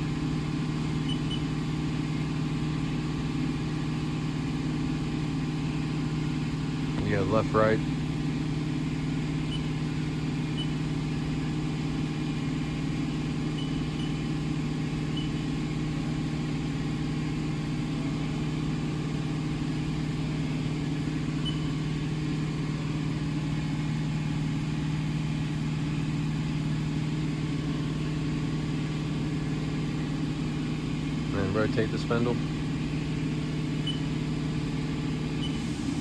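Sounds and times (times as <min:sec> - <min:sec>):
low machinery hum: 0:00.0 - 0:36.0.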